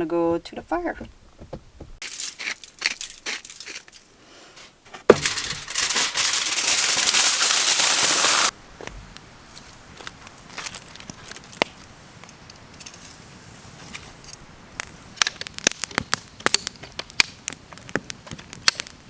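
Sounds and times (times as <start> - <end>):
aluminium foil crinkling: 2.0 - 8.5, 9.6 - 18.9.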